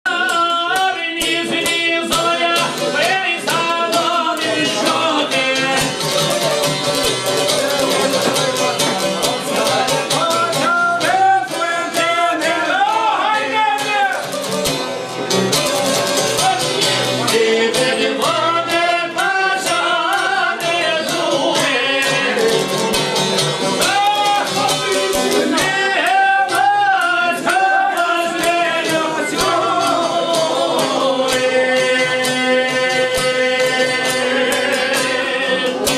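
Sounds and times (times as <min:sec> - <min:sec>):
folk song singing: 0:00.0 - 0:35.9
long-necked lute playing: 0:01.3 - 0:35.9.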